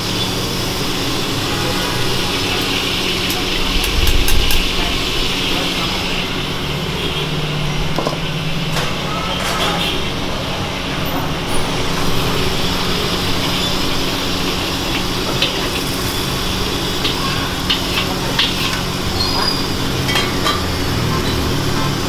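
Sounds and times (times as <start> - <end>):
gas burner roaring: 0.0 - 22.0.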